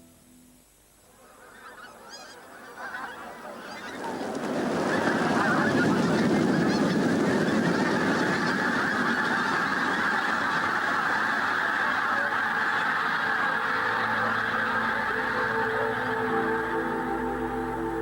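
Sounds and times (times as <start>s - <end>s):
geese honking: 1.1s - 18.0s.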